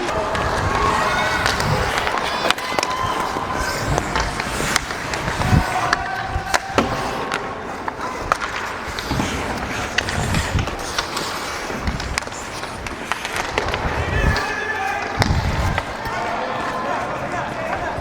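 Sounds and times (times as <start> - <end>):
skates scraping on ice: 0.0 - 18.0.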